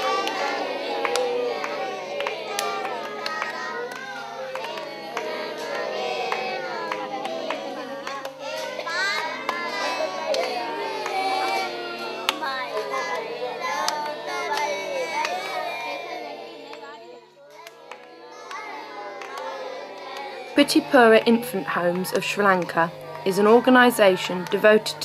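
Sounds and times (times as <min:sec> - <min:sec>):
children singing together: 0:00.0 - 0:25.0.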